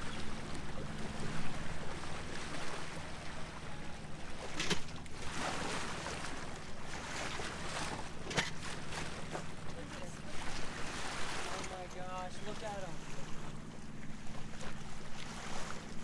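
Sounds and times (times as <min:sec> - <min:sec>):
low engine hum: 0:00.0 - 0:16.0
water rushing along hull: 0:00.0 - 0:16.0.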